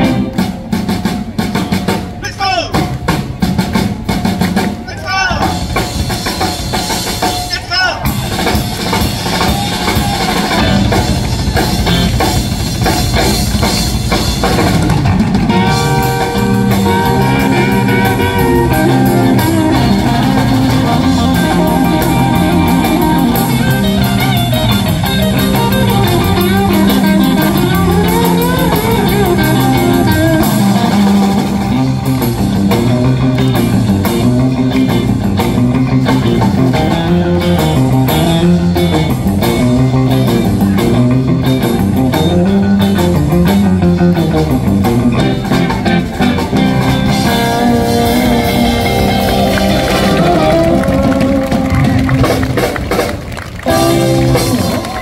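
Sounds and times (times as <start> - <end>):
drum kit: 0.0 - 55.0
live rock band playing: 0.0 - 55.0
melodic guitar line with bent notes: 0.0 - 55.0.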